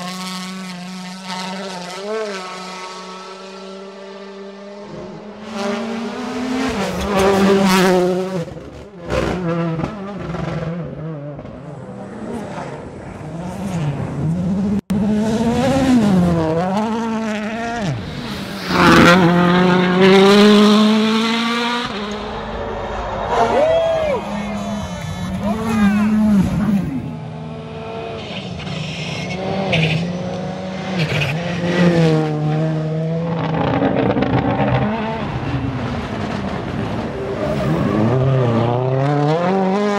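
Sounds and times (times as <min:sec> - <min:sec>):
rally car engines revving: 0:00.0 - 0:39.9.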